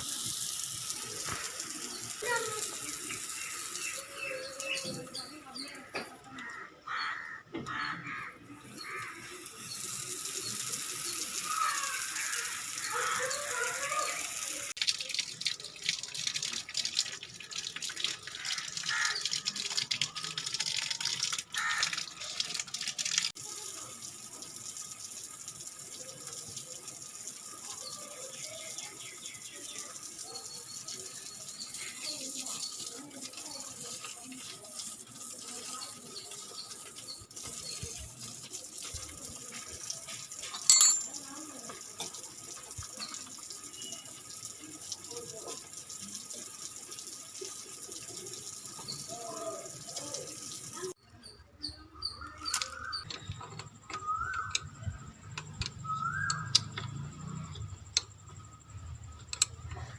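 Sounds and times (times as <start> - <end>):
water running: 0.0 - 51.0, 52.2 - 59.9.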